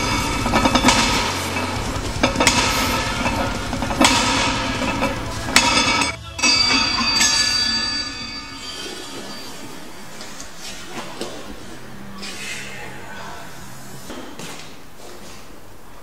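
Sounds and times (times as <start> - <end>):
soundtrack music with low pulse: 0.0 - 14.2
sharp metallic hits: 0.0 - 14.4
sustained high tones: 0.0 - 14.4.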